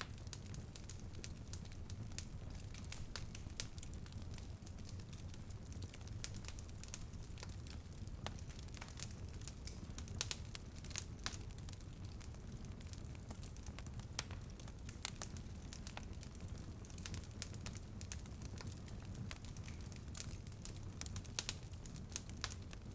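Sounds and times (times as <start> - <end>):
wood fire crackling in fireplace: 0.0 - 22.9.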